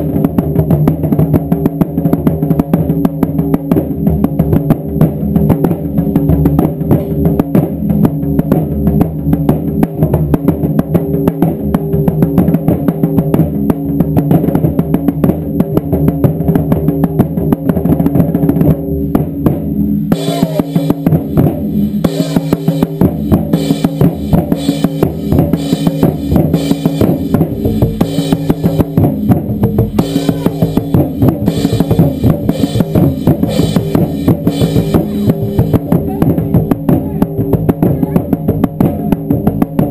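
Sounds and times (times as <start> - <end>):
taiko drums pounding: 0.0 - 39.9.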